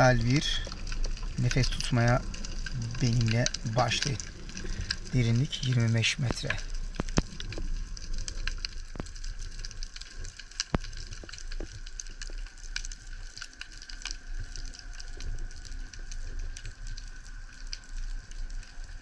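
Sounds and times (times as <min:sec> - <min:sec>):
low underwater hum: 0:00.0 - 0:19.0
underwater crackle of sharp clicks: 0:00.0 - 0:19.0.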